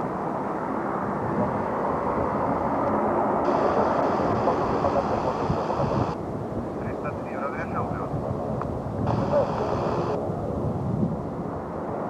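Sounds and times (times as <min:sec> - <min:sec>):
turboprop engines droning: 0:00.0 - 0:10.6.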